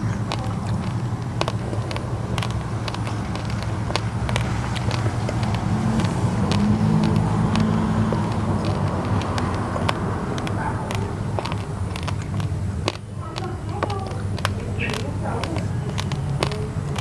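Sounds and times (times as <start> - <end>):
crunching of rice being chewed: 0.0 - 17.0
vehicle engine humming: 0.0 - 17.0.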